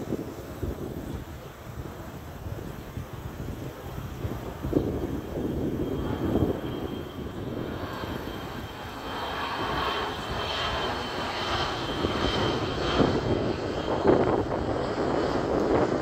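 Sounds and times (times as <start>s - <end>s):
high jet engine whine: 0.0s - 16.0s
jet engines rushing overhead: 0.0s - 16.0s.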